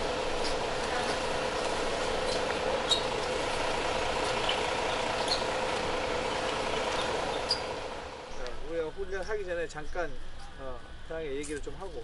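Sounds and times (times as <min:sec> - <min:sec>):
diesel coach engine idling: 0:00.0 - 0:09.6.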